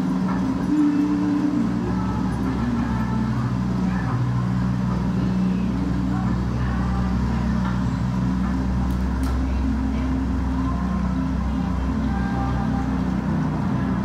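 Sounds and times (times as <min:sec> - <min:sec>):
faint indistinct voices: 0:00.0 - 0:14.0
low drone: 0:00.0 - 0:14.0.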